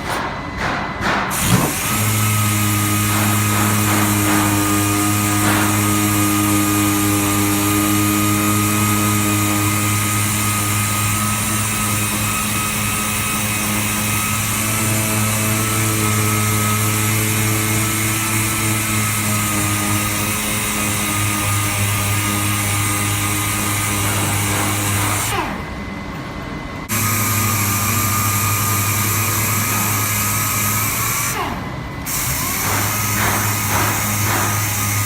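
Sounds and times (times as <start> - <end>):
machine humming: 0.0 - 35.0.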